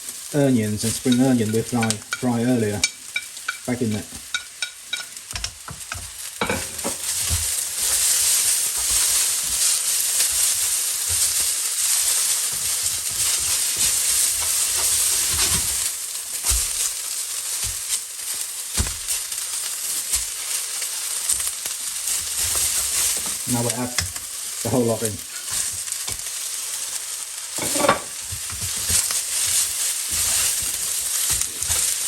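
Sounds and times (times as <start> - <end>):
noodles sizzling in a wok: 0.0 - 32.0
utensil scraping a wok: 1.0 - 26.4, 27.5 - 32.0.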